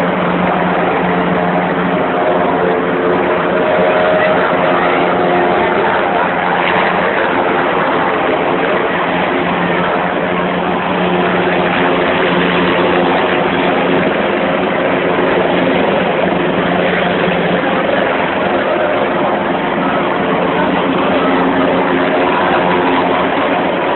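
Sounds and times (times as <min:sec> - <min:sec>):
helicopter rotor and turbine: 0:00.0 - 0:23.9.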